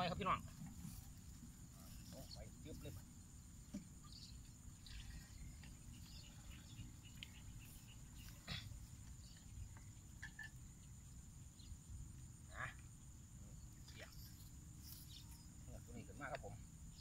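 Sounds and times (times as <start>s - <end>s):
insect chirps: 0.0s - 17.0s
insects droning: 0.0s - 17.0s.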